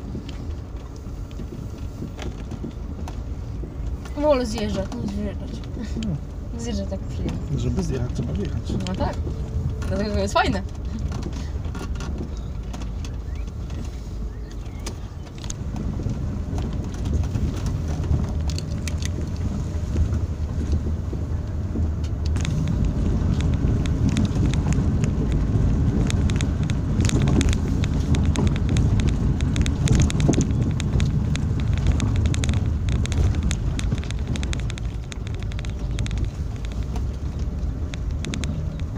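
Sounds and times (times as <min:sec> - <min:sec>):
knocks and rattles: 0:00.0 - 0:06.0, 0:06.9 - 0:38.9
engine and tyres rumbling: 0:00.0 - 0:38.9
stones crackling under tyres: 0:00.0 - 0:38.9.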